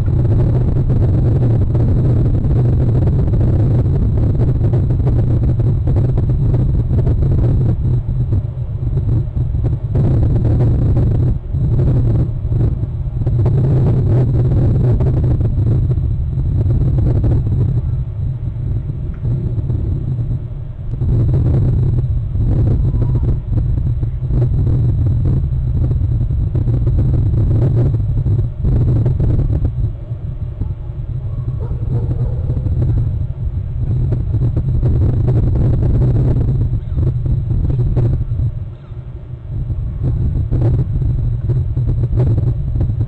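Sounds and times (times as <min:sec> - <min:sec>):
loud low rumble: 0:00.0 - 0:43.0.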